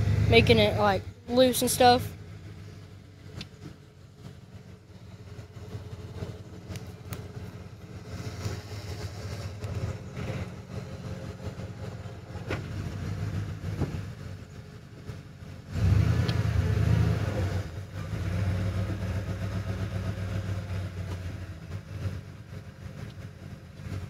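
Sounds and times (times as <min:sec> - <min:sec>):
pickup truck engine under load: 0:00.0 - 0:24.0.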